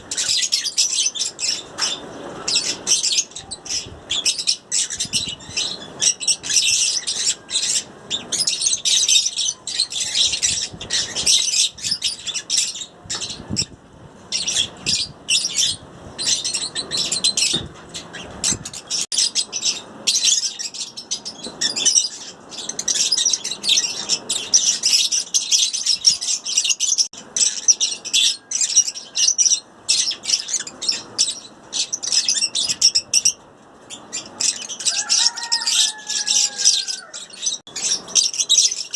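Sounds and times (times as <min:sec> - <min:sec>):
lovebirds chirping and squawking: 0:00.0 - 0:38.9.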